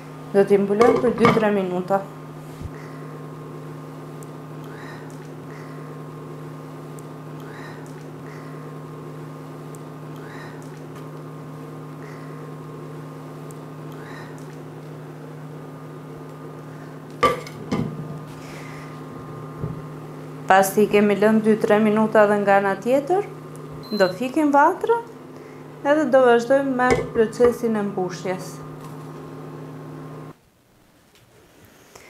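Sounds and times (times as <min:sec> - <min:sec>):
induction hob humming: 0:00.0 - 0:30.4.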